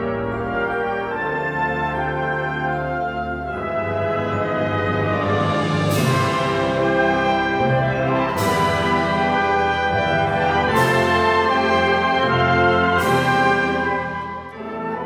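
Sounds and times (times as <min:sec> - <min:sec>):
wind band playing: 0:00.0 - 0:15.0.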